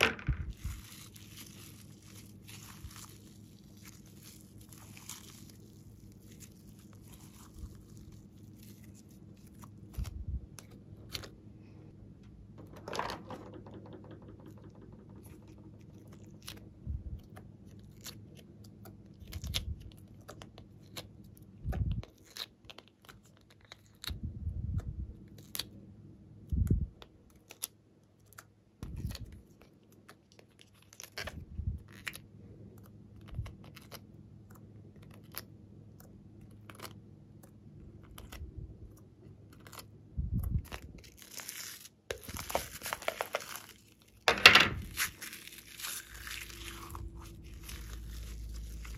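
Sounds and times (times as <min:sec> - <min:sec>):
faint low hum: 0:00.0 - 0:48.9
sticky slime crackles and squishes: 0:00.4 - 0:11.4, 0:15.1 - 0:24.2, 0:24.8 - 0:25.8, 0:26.9 - 0:48.9.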